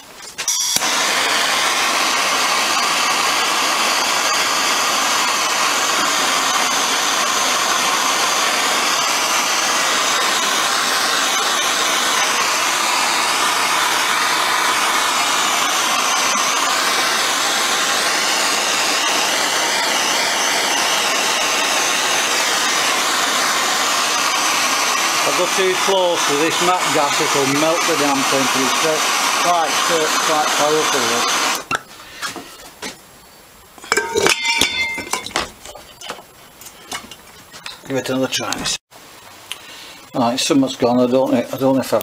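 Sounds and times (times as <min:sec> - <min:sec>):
blowtorch hissing: 0:00.0 - 0:32.9, 0:33.8 - 0:42.0.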